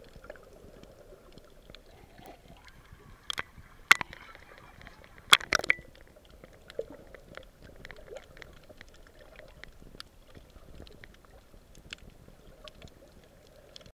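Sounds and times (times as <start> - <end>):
low rumble of water: 0.0 - 13.9
underwater clicks and crackles: 0.0 - 13.9.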